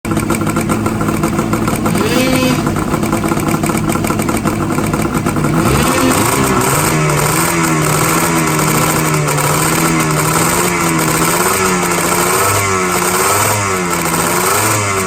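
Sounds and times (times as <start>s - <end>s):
snowmobile two-stroke engine revving: 0.1s - 15.0s.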